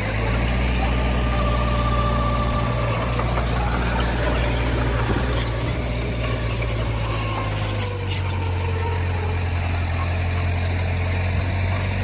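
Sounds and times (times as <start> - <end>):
heavy machine diesel engine: 0.0 - 12.0.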